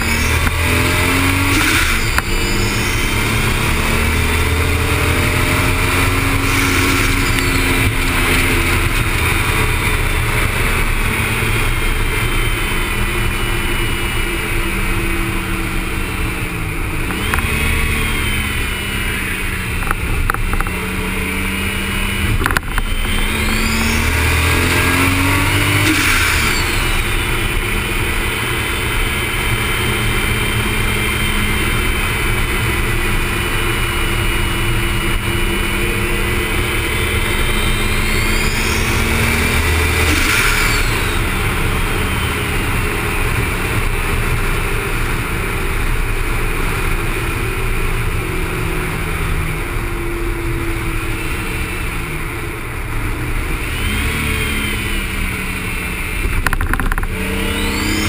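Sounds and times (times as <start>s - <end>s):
car engine pulling hard: 0.0s - 58.0s
wind and road noise: 0.0s - 58.0s.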